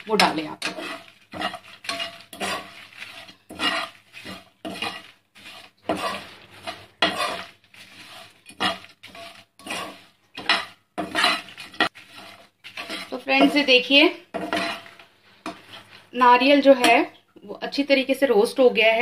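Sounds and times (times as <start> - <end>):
metal spatula scraping a pan: 0.0 - 17.0.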